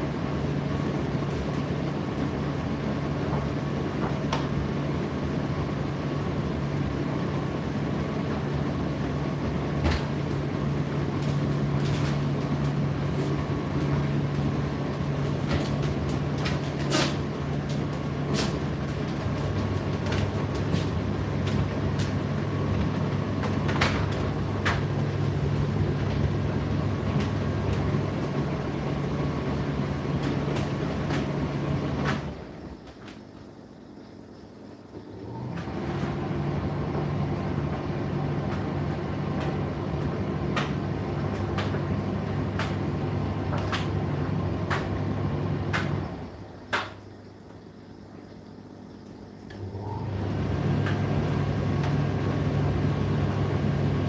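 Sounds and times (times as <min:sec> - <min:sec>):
tumble dryer humming: 0:00.0 - 0:33.4, 0:34.9 - 0:47.6, 0:49.1 - 0:54.0.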